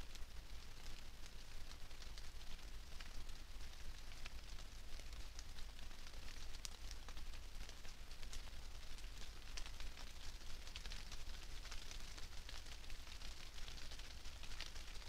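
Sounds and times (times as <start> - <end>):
rain pattering on leaves: 0.0 - 15.0.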